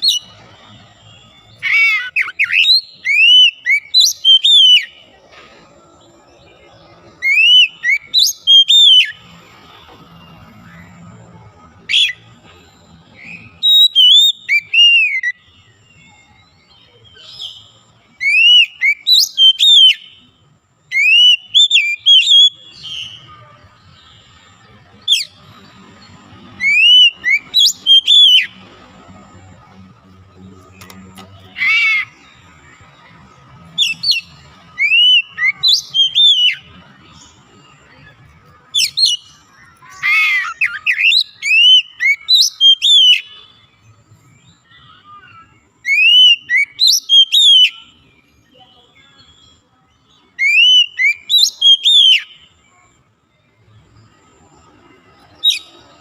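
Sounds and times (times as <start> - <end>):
bird singing whistled notes: 0.0 - 5.2, 6.0 - 9.4, 10.0 - 52.8, 53.8 - 56.0.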